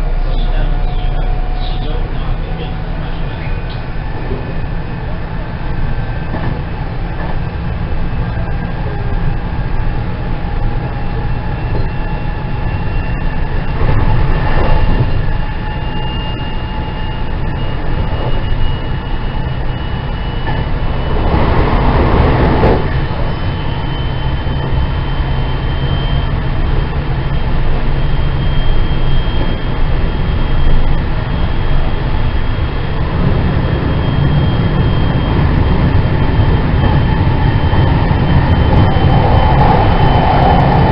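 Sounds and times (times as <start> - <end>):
train motor whine: 0.0 - 40.9
train wheels rumbling on track: 0.0 - 40.9.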